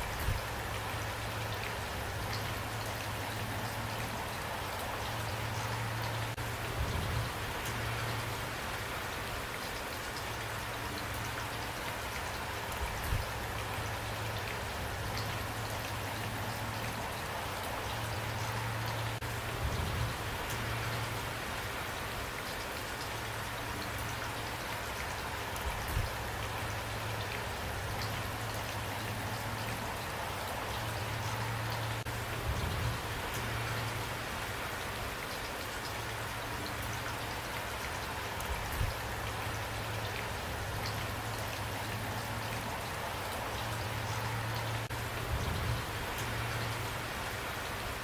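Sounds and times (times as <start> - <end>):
rain pattering: 0.0 - 48.0.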